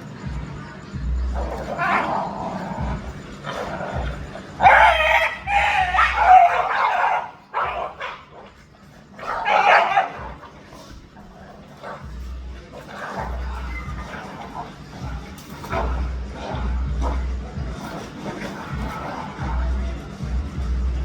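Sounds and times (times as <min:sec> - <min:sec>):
dogs barking and yipping: 0:00.0 - 0:19.7.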